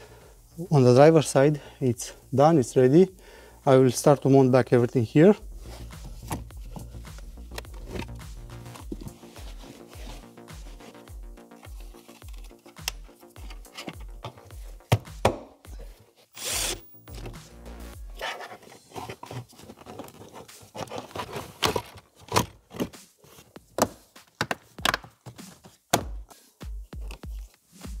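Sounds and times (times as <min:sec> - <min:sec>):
background music with steady beat: 0:00.0 - 0:19.4, 0:22.7 - 0:28.0.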